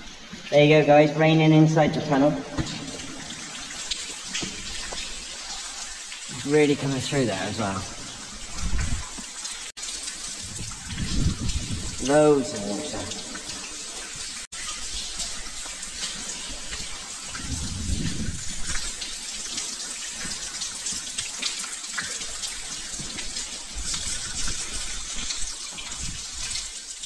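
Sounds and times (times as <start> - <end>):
water dripping in tunnel: 0.0 - 27.0.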